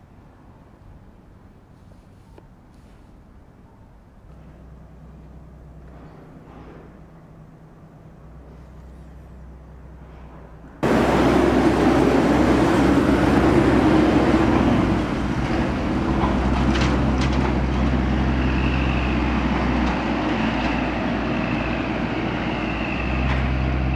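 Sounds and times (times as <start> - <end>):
rumble and hiss of urban sound: 0.0 - 23.9.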